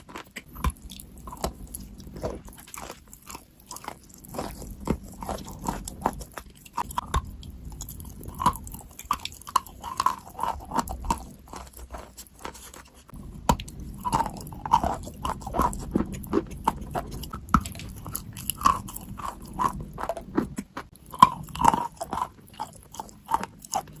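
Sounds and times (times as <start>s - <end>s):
crunchy food chewing: 0.0s - 24.0s.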